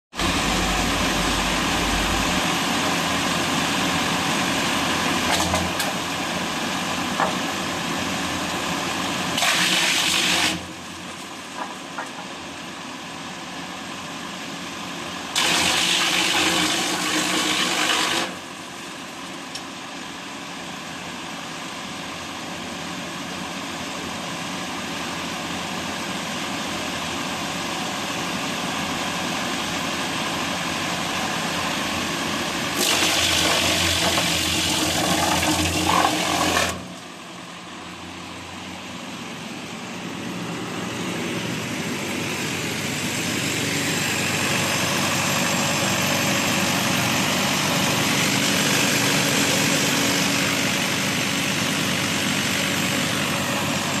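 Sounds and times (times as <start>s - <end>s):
wood chipper diesel engine: 0.1s - 54.0s.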